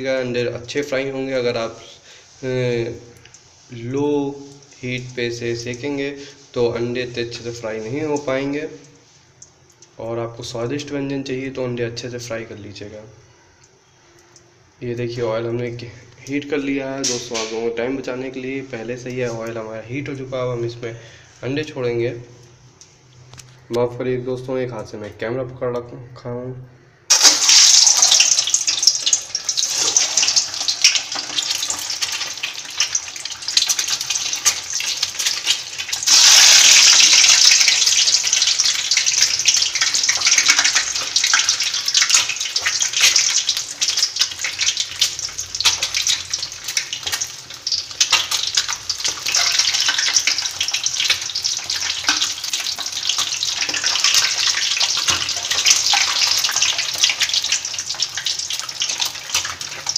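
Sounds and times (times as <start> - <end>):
eggs deep-frying in sizzling oil: 0.0 - 21.3, 27.1 - 59.9.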